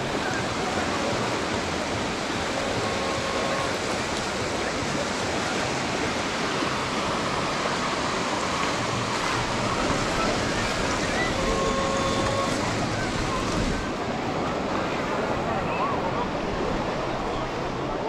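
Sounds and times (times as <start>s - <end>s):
ocean surf washing ashore: 0.0s - 18.0s
wind: 0.0s - 18.0s.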